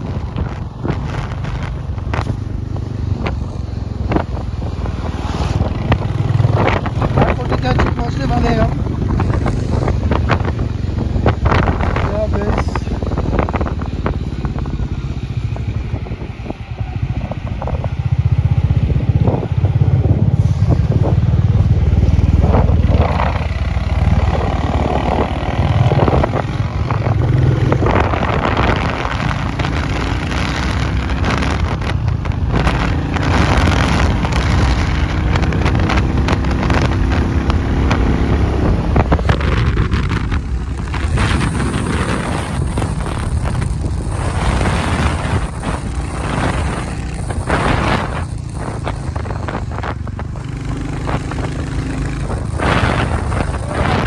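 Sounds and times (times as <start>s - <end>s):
motorcycle engine rumble: 0.0s - 54.0s
wind noise on microphone: 0.0s - 54.0s.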